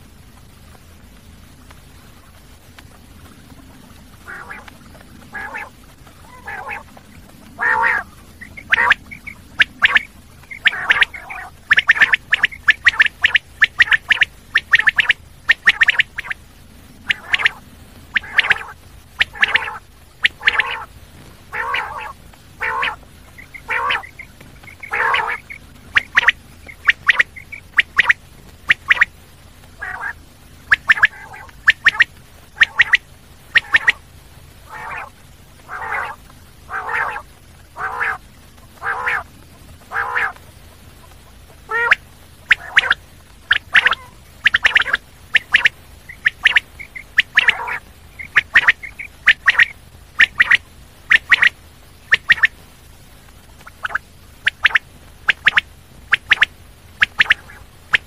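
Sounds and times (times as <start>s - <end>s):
quail calling: 4.1s - 16.4s, 17.0s - 34.0s, 34.6s - 52.6s, 53.6s - 58.0s.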